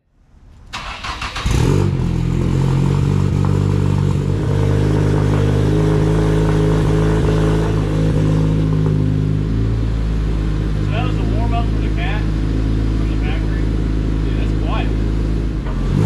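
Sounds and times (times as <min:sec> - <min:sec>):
car engine idling: 0:00.1 - 0:16.0.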